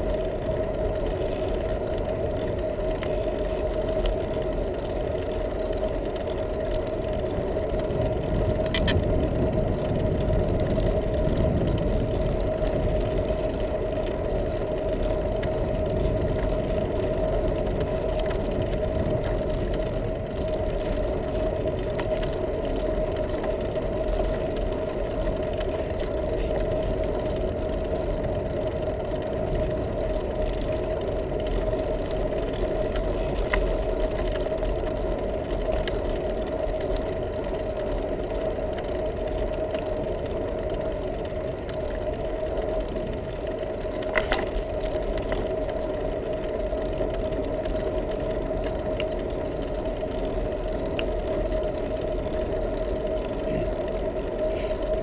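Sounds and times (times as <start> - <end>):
bicycle tyres rumbling on asphalt: 0.0 - 55.0
constant hum: 0.0 - 55.0.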